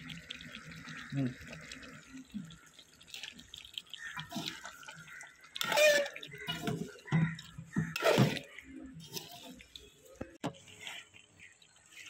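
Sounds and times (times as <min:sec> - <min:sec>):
ladle stirring thick gravy: 0:00.0 - 0:12.0.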